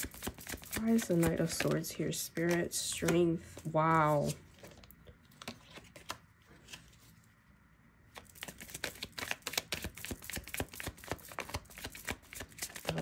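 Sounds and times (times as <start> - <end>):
cards being shuffled: 0.0 - 7.2, 8.1 - 13.0.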